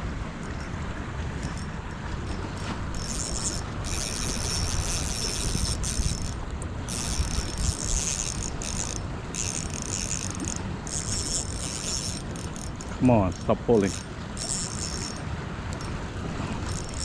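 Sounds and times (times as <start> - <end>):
fishing reel drag buzzing: 1.4 - 17.0.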